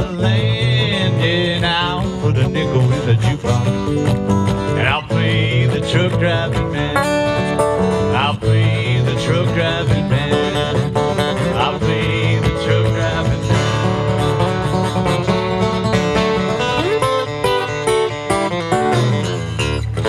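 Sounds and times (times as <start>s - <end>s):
acoustic guitars playing country tune: 0.0s - 20.0s.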